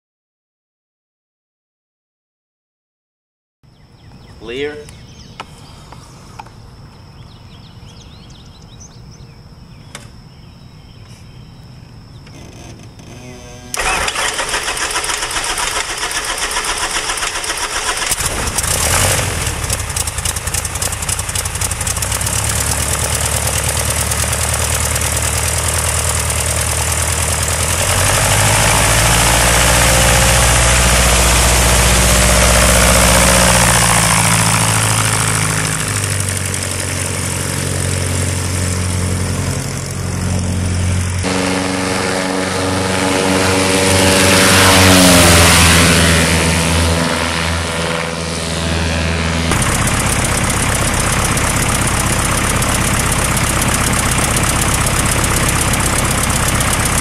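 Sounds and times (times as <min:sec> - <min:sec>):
aircraft engine starting and running: 0:04.2 - 0:57.0.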